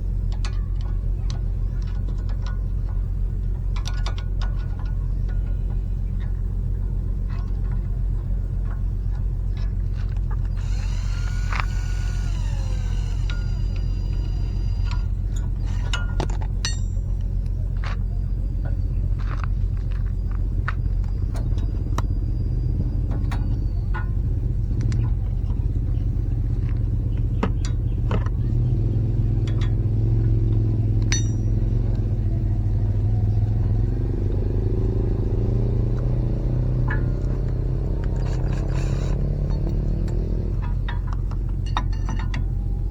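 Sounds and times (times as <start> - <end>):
low mechanical rumble: 0.0 - 42.9
hand tools tapping on metal: 0.3 - 18.1, 18.7 - 42.9.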